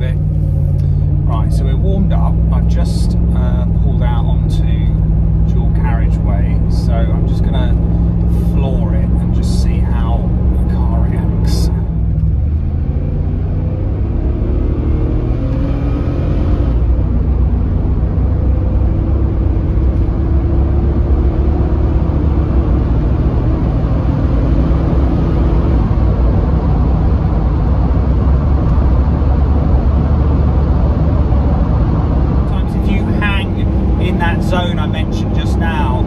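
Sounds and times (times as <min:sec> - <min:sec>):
car engine at full throttle: 0:00.0 - 0:36.0
road rumble: 0:00.0 - 0:36.0.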